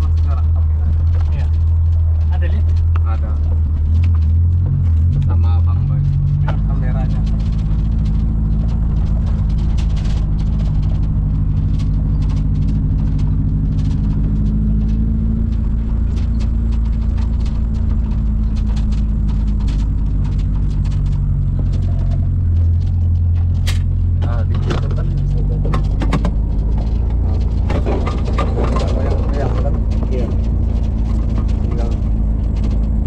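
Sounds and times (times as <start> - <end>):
car body rattling: 0.0 - 33.0
car engine running: 0.0 - 33.0.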